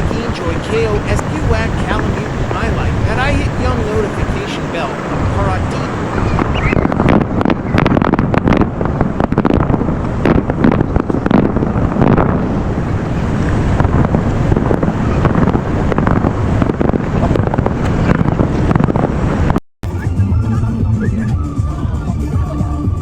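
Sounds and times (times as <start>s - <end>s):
fireworks bangs and crackles: 0.0s - 19.6s
wind buffeting microphone: 0.0s - 23.0s.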